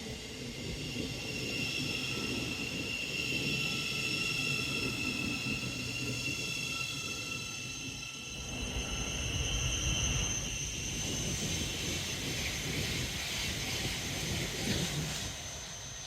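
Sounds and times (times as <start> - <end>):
train high whine: 0.0 - 16.0
train rushing hiss: 0.0 - 16.0
train wheels rumbling on rail: 0.0 - 16.0.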